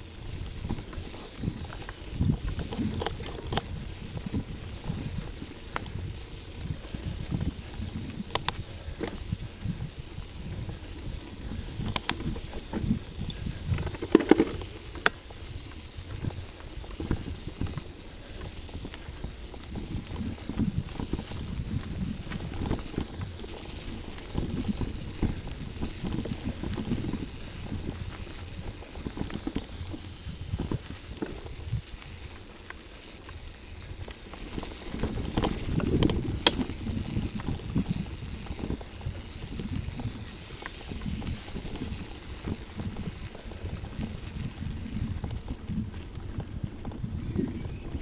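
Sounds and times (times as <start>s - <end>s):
bicycle rumbling on dirt trail: 0.0s - 48.0s.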